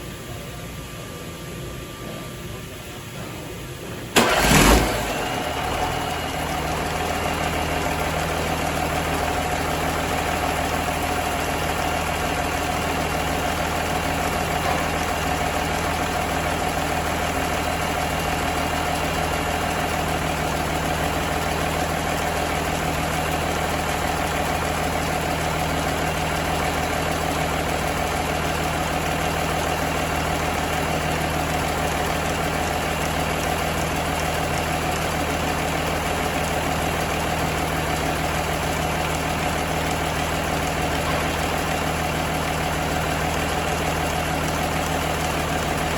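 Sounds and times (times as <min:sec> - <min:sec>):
diesel engine starting and idling: 0:04.1 - 0:45.9.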